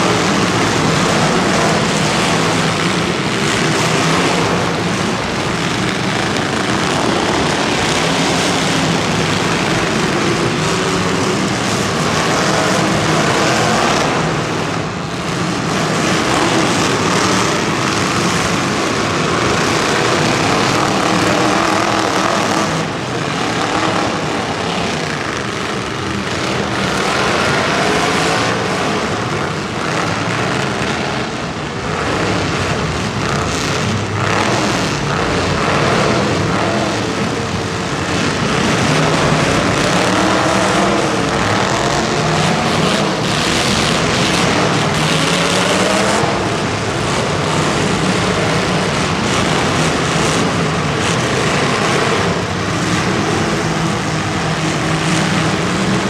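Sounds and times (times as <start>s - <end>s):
racing engines revving: 0.0s - 56.0s.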